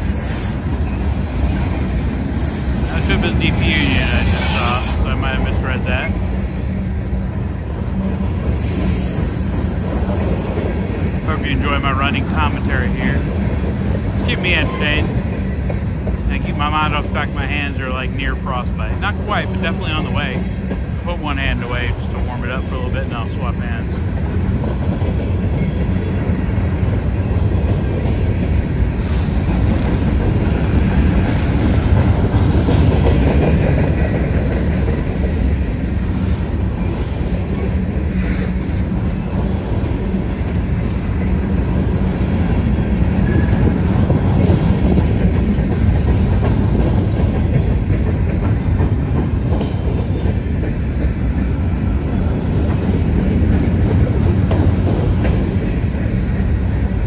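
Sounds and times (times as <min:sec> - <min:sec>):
freight train rumbling past: 0:00.0 - 0:57.0
steel wheels clattering on rails: 0:00.0 - 0:57.0.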